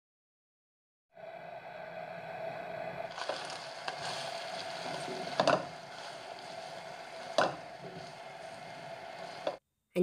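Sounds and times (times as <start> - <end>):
constant hum: 1.2 - 9.6
food sizzling in a wok: 1.2 - 9.6.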